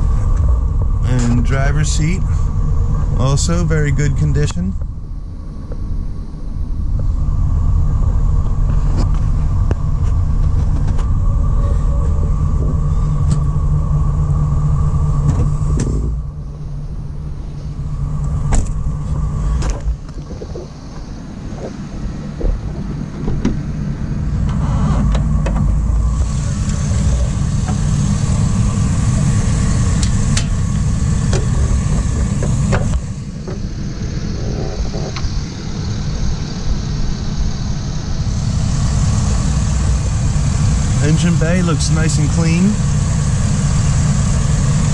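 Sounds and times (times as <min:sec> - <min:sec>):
engine idling with low rumble: 0:00.0 - 0:44.9.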